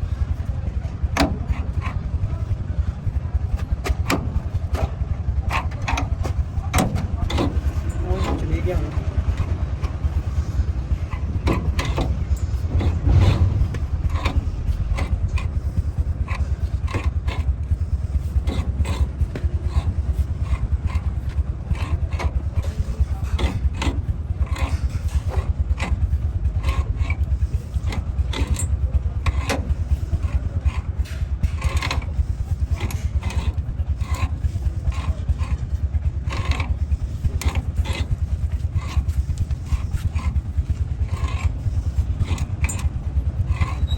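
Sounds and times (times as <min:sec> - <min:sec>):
engine rumble: 0:00.0 - 0:43.9
hand tools on metal: 0:00.0 - 0:43.9.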